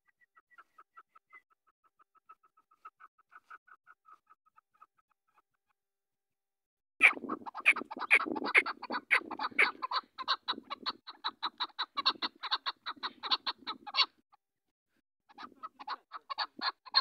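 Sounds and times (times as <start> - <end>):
partridge clucking calls: 0.0 - 5.5, 7.0 - 14.2, 15.3 - 17.0.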